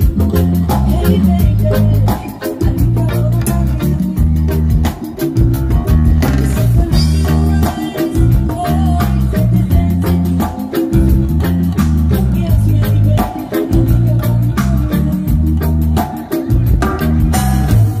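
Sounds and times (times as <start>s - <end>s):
electric guitar: 0.0s - 18.0s
heavy bass line: 0.0s - 18.0s.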